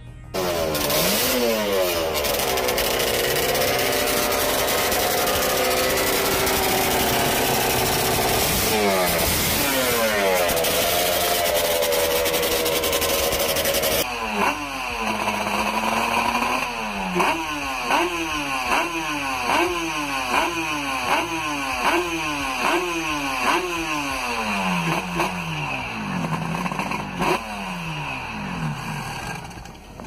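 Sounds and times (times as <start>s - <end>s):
racing engine revving: 0.4s - 29.7s.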